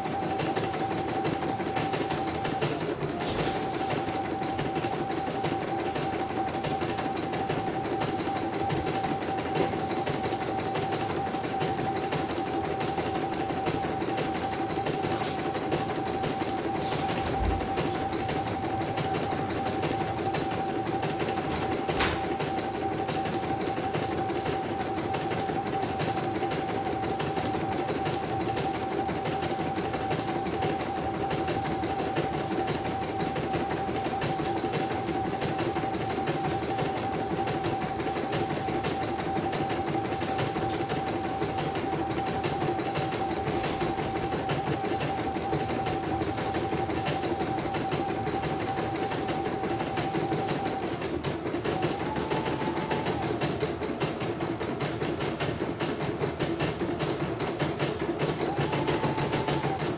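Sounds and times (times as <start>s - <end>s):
embroidery machine humming: 0.0s - 59.9s.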